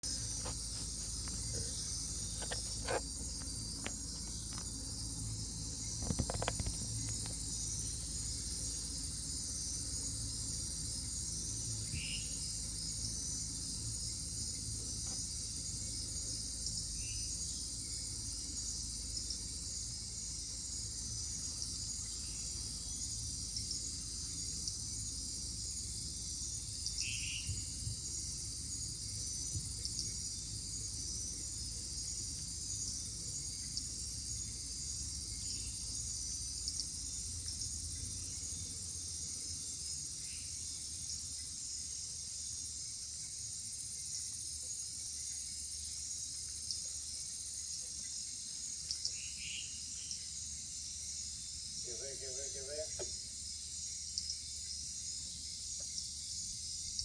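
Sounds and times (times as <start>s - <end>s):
insect chorus trilling: 0.0s - 57.0s
short insect calls: 0.0s - 57.0s.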